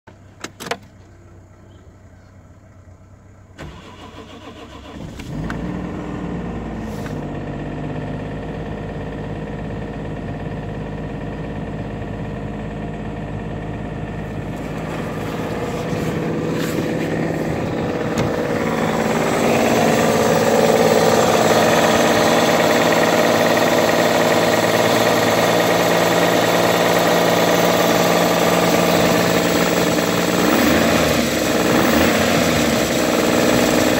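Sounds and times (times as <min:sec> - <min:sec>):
car engine cranking and starting: 0:00.1 - 0:33.9
engine running with knock: 0:05.1 - 0:33.9.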